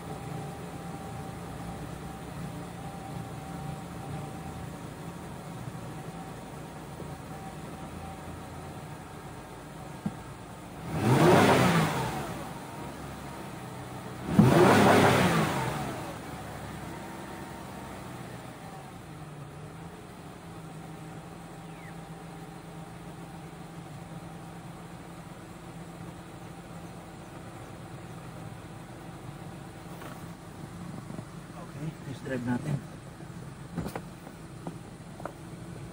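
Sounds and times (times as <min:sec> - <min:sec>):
car engine revving and idling: 0:00.0 - 0:35.9.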